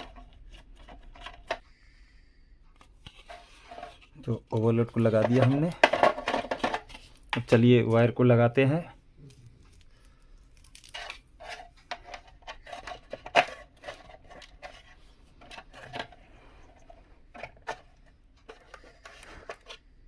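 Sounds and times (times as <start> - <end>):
hands handling plastic parts: 0.0 - 1.6, 2.7 - 8.2, 9.2 - 20.0.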